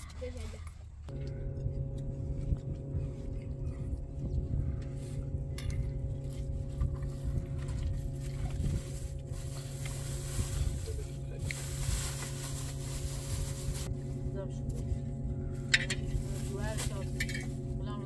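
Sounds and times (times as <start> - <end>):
motor humming: 1.0 - 18.0.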